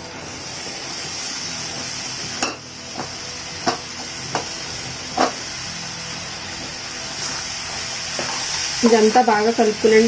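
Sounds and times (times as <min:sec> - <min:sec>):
food sizzling in a pot: 0:00.0 - 0:10.0.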